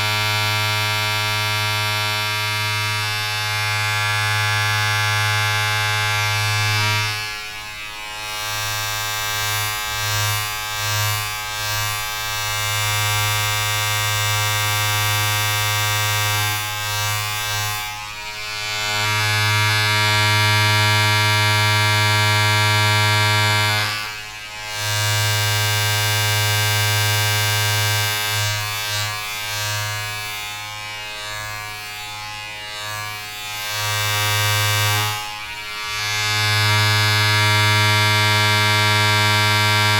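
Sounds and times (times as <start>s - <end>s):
electric motor buzzing: 0.0s - 39.9s.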